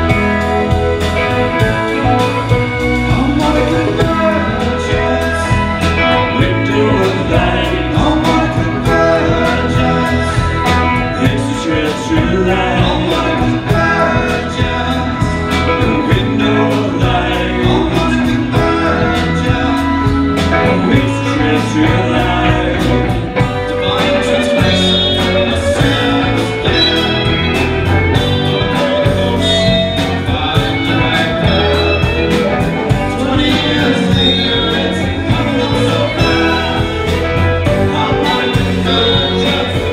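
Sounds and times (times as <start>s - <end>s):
live band playing: 0.0s - 39.9s
person singing: 0.0s - 39.9s.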